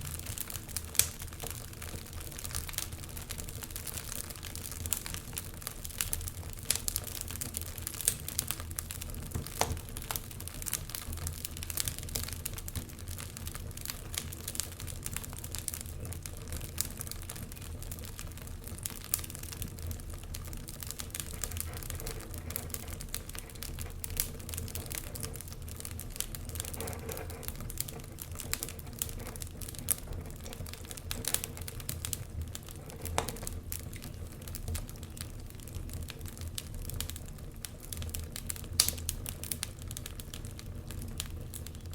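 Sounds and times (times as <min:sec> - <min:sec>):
fire crackling and popping: 0:00.0 - 0:41.9
low rush of flame: 0:00.0 - 0:41.9.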